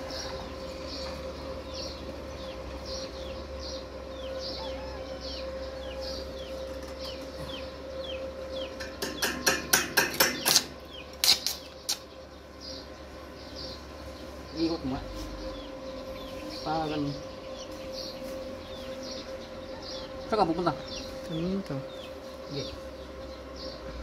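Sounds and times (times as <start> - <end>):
bird peeping: 0.0 - 9.4, 10.4 - 24.0.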